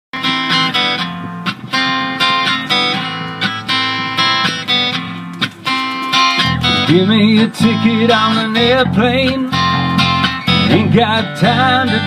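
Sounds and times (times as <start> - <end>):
acoustic guitar strumming chords: 0.2 - 12.0.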